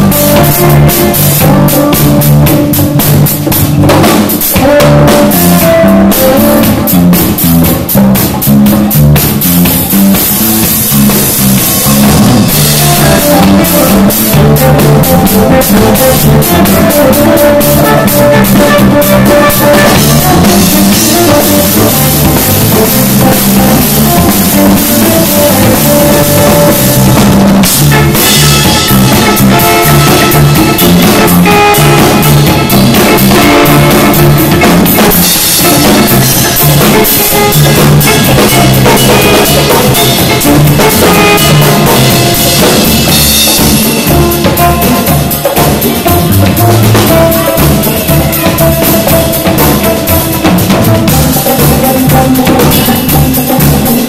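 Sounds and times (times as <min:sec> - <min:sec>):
bass line: 0:00.0 - 0:54.0
drum kit beat: 0:00.0 - 0:54.0
electric guitar: 0:00.0 - 0:54.0.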